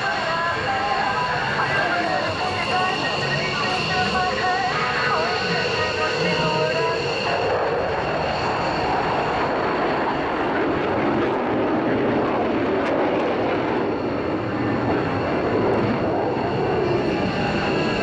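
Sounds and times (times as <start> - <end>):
jet engine flyover: 0.0 - 18.0.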